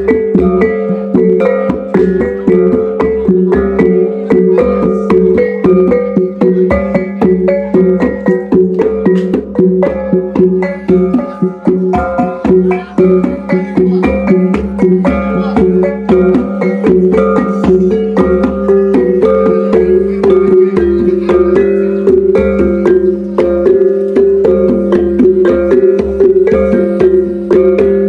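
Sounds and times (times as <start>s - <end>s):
drum beat: 0.0s - 28.0s.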